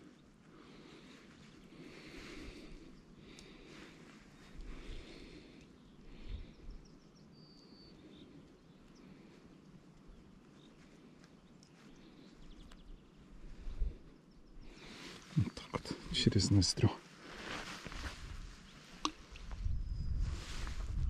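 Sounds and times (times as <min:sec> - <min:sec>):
low outdoor background haze: 0:00.0 - 0:21.0.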